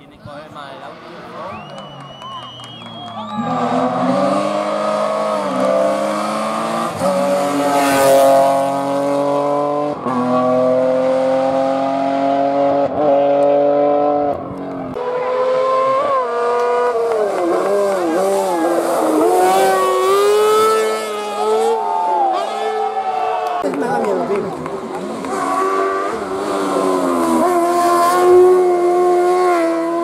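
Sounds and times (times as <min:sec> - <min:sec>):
race car engines accelerating: 0:00.1 - 0:30.0.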